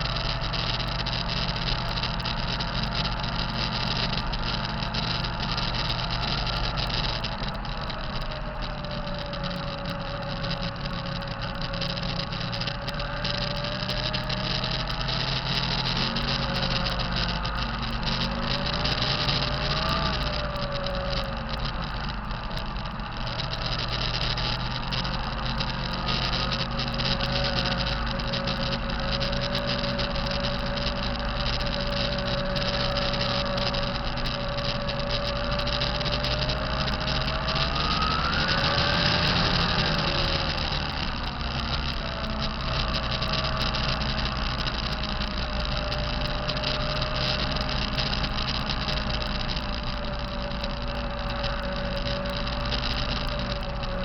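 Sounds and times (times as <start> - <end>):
turbo whine: 0.0 - 54.0.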